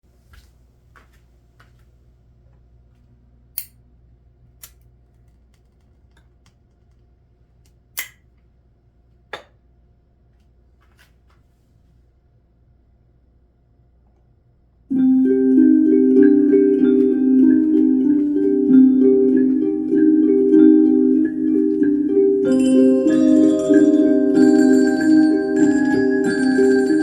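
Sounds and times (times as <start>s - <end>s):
low steady hum: 0.1s - 27.0s.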